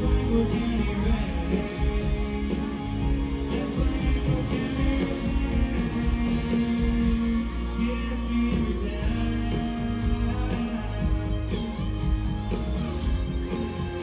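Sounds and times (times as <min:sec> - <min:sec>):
person singing: 0:00.0 - 0:12.6
live country band playing: 0:00.0 - 0:14.0.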